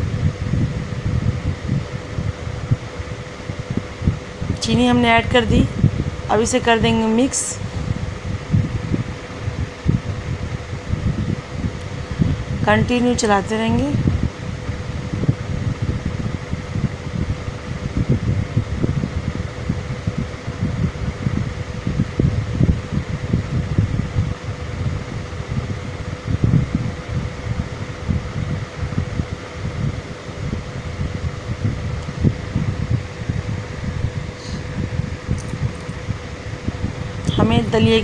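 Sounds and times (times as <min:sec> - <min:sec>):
electric fan whirring: 0:00.0 - 0:38.0
low rumbling buffets: 0:00.0 - 0:38.0.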